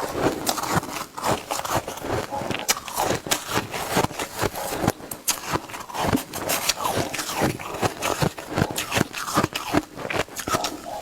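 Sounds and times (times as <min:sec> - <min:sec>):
person chewing shaved ice: 0:00.0 - 0:11.0.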